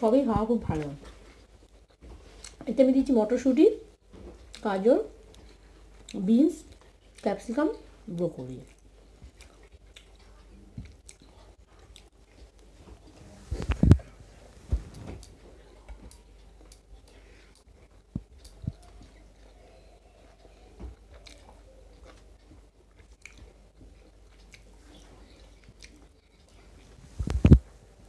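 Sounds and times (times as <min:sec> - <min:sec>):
person chewing food: 0:00.7 - 0:02.6, 0:05.2 - 0:08.0, 0:08.6 - 0:27.6.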